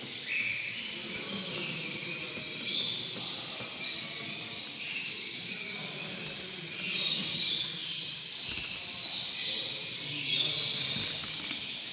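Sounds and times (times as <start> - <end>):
songbirds twittering and singing: 0.0 - 11.9.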